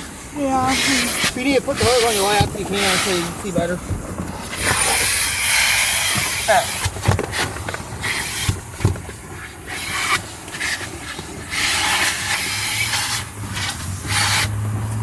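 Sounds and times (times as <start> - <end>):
nozzle scraping over carpet: 0.0 - 15.0
vacuum hose sucking air: 0.0 - 15.0.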